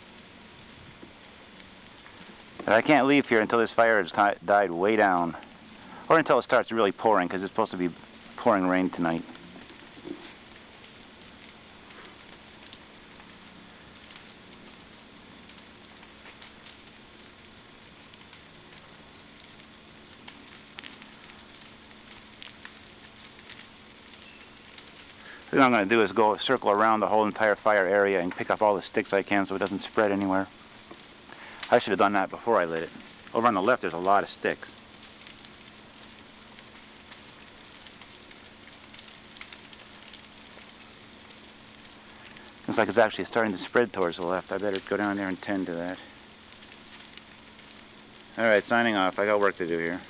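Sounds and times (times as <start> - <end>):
bonfire hissing: 0.0 - 50.0
fire crackling and popping: 0.0 - 50.0
loud snaps of fire: 0.0 - 50.0.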